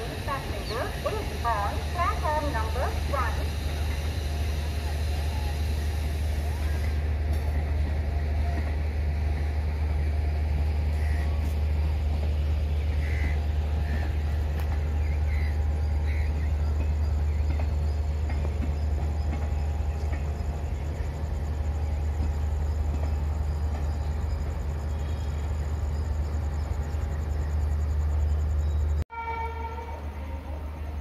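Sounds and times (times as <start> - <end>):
train rumble and hum: 0.0 - 31.0.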